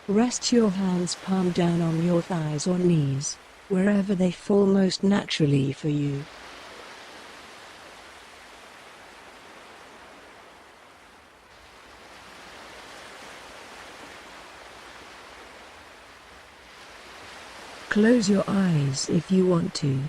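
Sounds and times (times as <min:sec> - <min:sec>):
ocean surf: 0:00.0 - 0:20.0.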